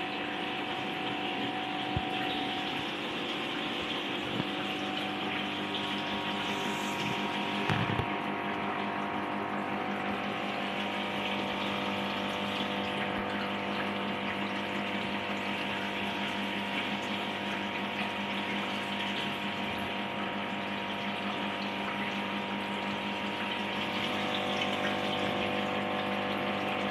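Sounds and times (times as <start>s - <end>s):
aquarium filter pump humming: 0.0s - 26.9s
water splashing and trickling: 0.0s - 26.9s.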